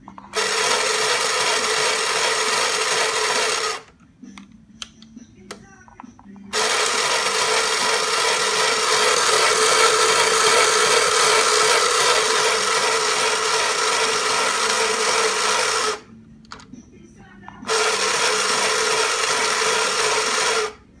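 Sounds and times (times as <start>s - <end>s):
toy sewing machine running: 0.3s - 3.9s, 6.5s - 16.6s, 17.6s - 20.8s.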